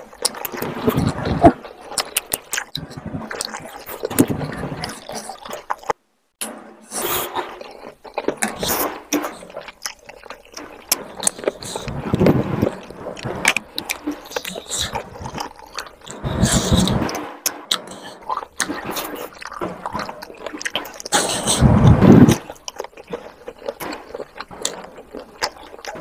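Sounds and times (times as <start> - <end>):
chewing: 0.0 - 6.0, 6.9 - 26.0.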